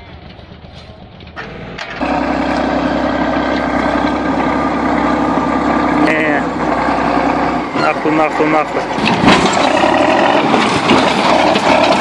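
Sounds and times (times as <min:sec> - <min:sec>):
bulldozer diesel engine droning: 0:00.0 - 0:12.0
faint excavator engine: 0:00.0 - 0:12.0.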